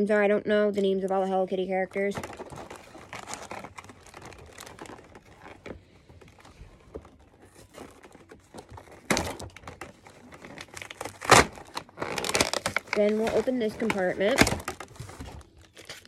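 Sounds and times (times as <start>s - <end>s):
packaging crinkling and rustling: 1.1s - 16.0s.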